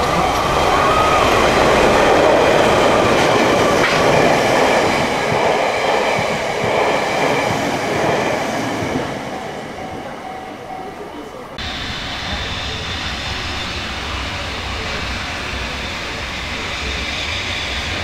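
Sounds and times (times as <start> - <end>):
diesel locomotive passing: 0.0 - 18.0
train cars rolling on rails: 0.0 - 18.0.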